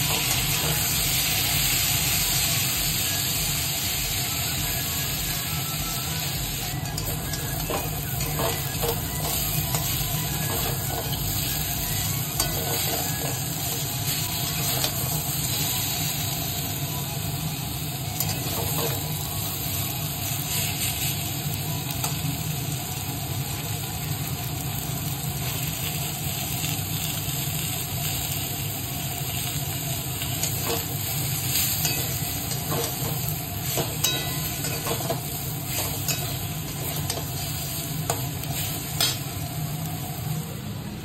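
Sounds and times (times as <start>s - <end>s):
vegetables sizzling in oil: 0.0s - 41.0s.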